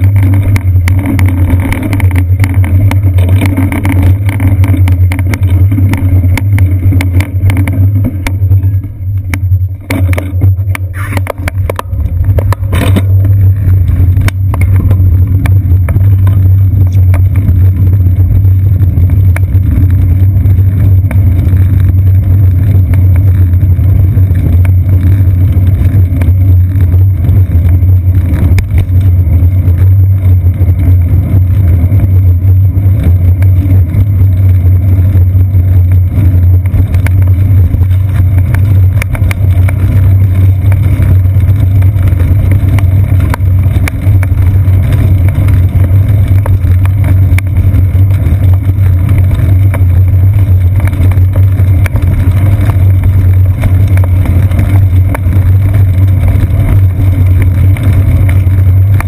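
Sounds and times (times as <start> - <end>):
road vibration rumble: 0.0 - 59.0
wind buffeting microphone: 0.0 - 59.0.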